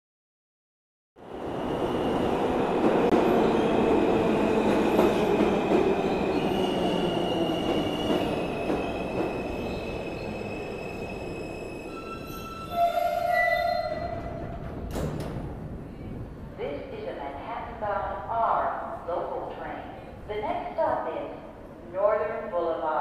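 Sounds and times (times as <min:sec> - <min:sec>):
subway train rumbling on rails: 0:01.2 - 0:23.0.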